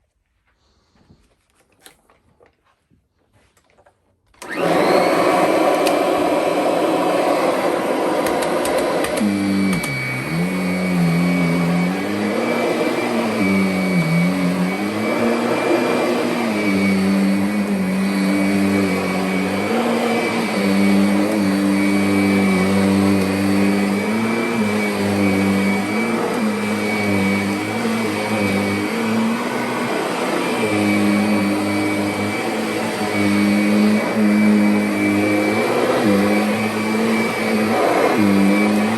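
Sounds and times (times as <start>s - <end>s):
vacuum cleaner motor whine: 4.4s - 38.9s.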